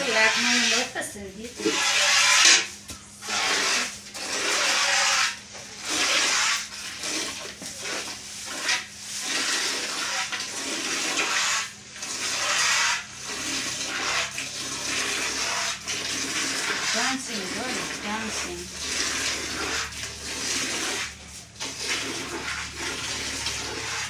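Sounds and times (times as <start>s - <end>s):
milk streams hissing into pail: 3.2s - 24.0s.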